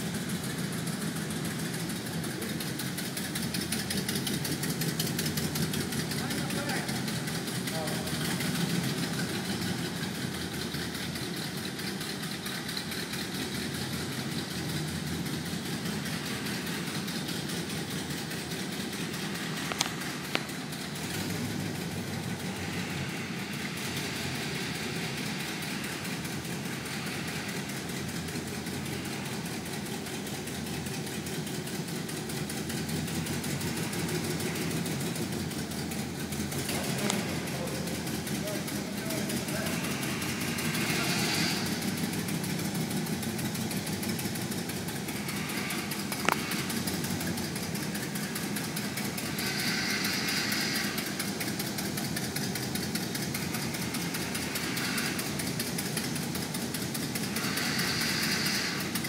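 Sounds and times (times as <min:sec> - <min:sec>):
car engine rumbling in garage: 0:00.0 - 0:59.0.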